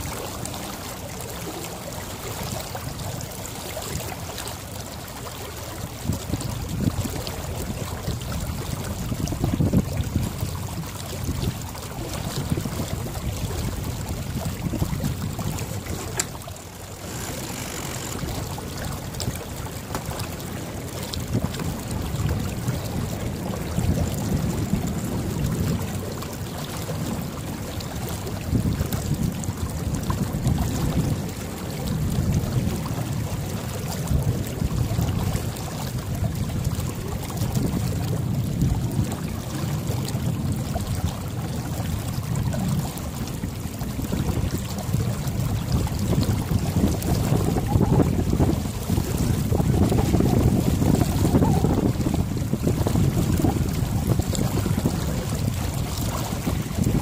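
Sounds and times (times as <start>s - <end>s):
water washing along hull: 0.0s - 57.0s
wind buffeting microphone: 0.0s - 57.0s.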